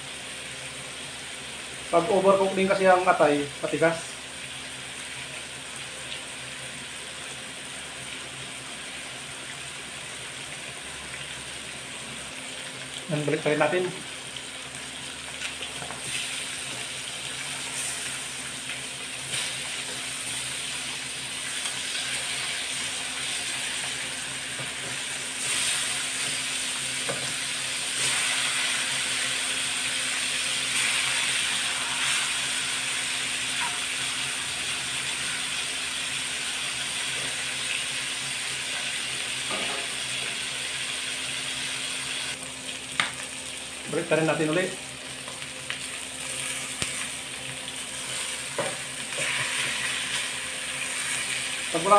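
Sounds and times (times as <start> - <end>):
liver sizzling in oil: 0.0 - 51.9.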